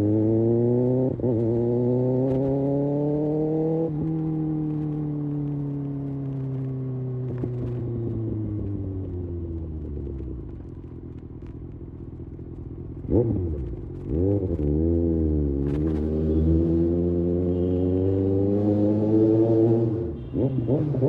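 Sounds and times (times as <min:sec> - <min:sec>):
motorcycle engine revving: 0:00.0 - 0:10.9, 0:12.0 - 0:21.0.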